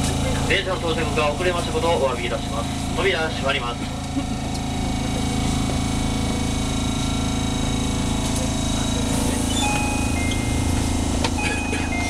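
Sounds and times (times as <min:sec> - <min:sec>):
train car running hum: 0:00.0 - 0:12.0.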